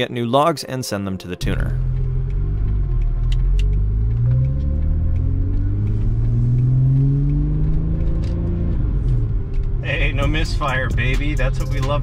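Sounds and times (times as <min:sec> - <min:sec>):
car engine accelerating: 0:01.5 - 0:12.0.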